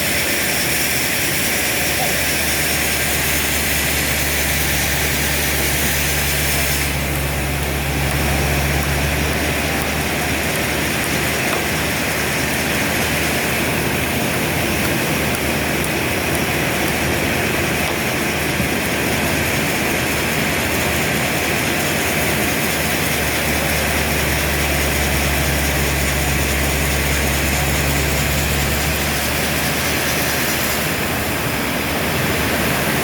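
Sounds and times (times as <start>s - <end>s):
low engine hum: 0.0s - 33.0s
sawmill machinery drone: 0.0s - 33.0s.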